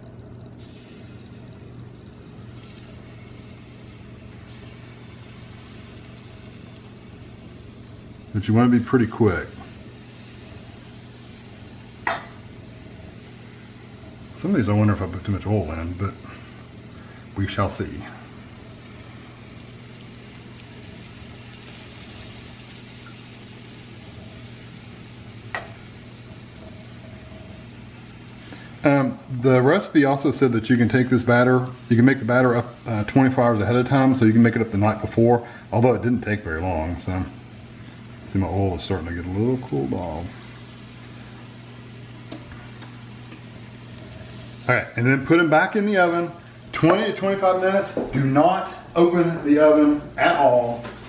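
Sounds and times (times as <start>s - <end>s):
batter sizzling in hot oil: 0.0s - 48.0s.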